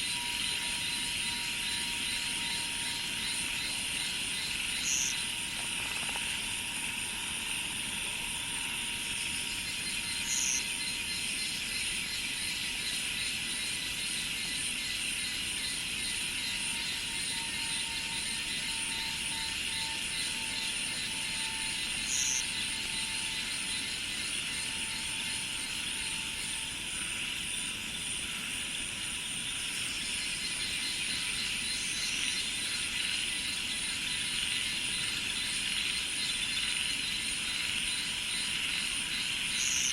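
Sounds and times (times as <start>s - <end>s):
insects buzzing chorus: 0.0s - 39.9s.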